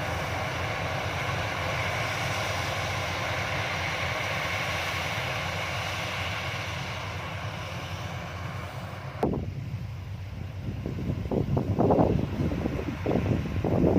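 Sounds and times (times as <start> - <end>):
combine harvester running: 0.0 - 13.9.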